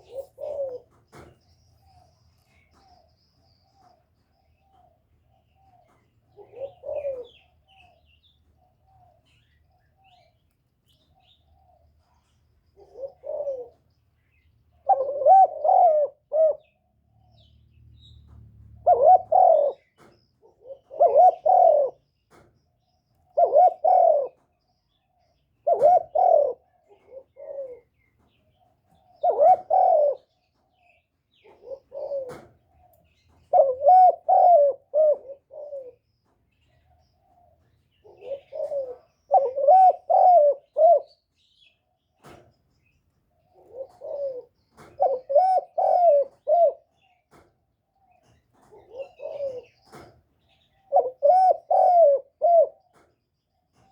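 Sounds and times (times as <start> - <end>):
dove cooing: 0.0 - 10.3, 11.2 - 17.0, 18.7 - 22.5, 23.2 - 41.3, 43.4 - 47.5, 48.1 - 53.1.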